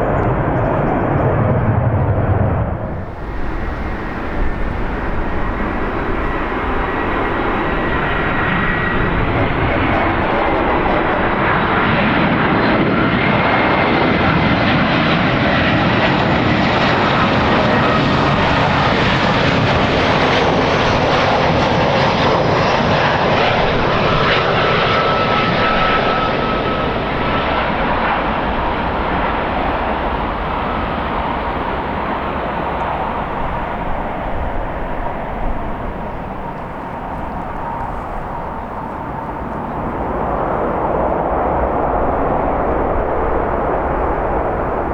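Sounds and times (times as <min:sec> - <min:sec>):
jet airliner engines roaring: 0:00.0 - 0:44.9.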